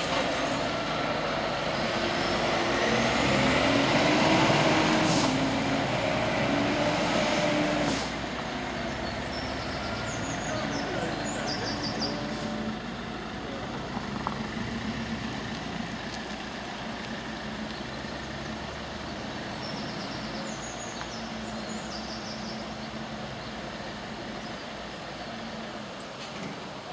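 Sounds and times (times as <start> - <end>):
engine humming steadily: 0.0 - 26.9.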